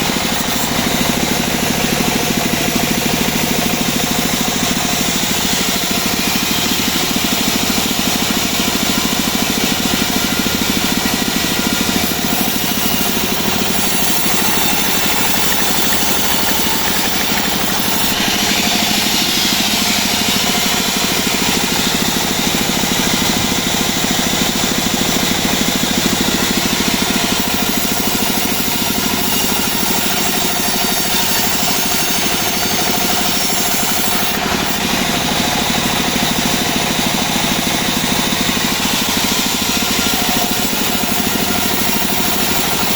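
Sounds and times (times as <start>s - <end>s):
bandsaw blade sawing wood: 0.0s - 42.9s
sawmill engine running: 0.0s - 42.9s.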